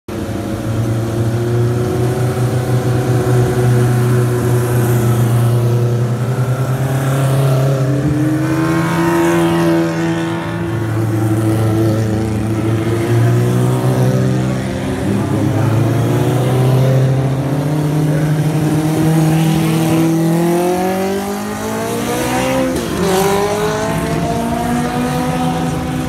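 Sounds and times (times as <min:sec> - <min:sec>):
race cars running at low revs: 0:00.1 - 0:26.0
race car passing close by: 0:00.5 - 0:26.0.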